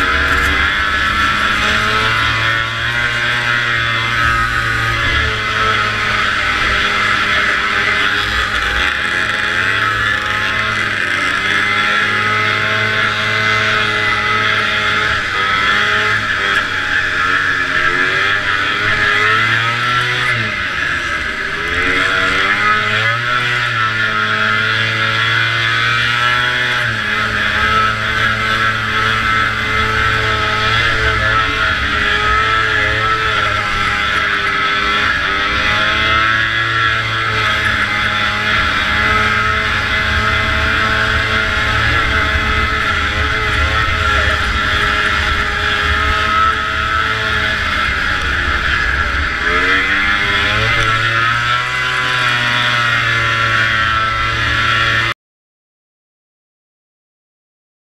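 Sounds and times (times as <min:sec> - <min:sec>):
wind and track noise: 0:00.0 - 0:55.1
snowmobile engine revving: 0:00.0 - 0:55.2.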